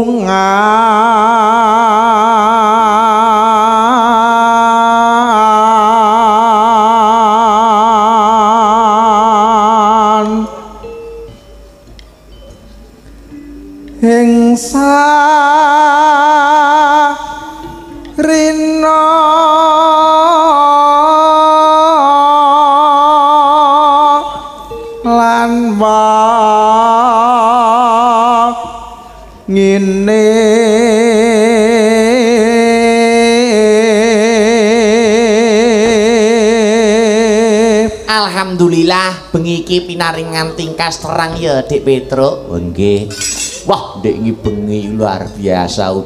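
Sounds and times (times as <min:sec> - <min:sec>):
man singing with vibrato: 0:00.0 - 0:11.8, 0:13.3 - 0:46.0.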